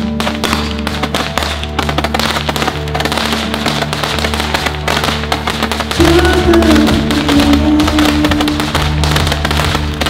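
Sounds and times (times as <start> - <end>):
background music with low notes: 0.0 - 10.0
roman candle firing pops: 0.0 - 10.0.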